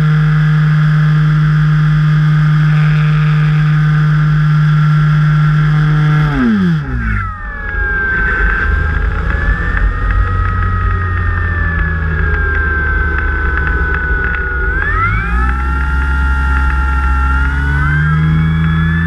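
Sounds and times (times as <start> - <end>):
electric motor and propeller: 0.0 - 19.0.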